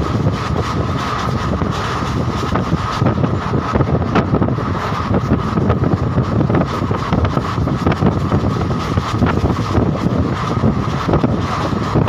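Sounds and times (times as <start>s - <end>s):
train running rumble: 0.0s - 12.0s
wind buffeting microphone: 0.0s - 12.0s.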